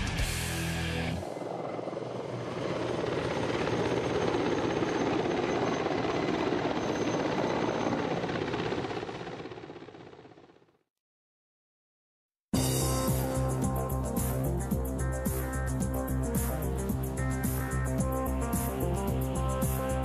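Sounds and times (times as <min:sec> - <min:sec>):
helicopter rotor beat: 0:00.0 - 0:10.8, 0:12.6 - 0:20.0.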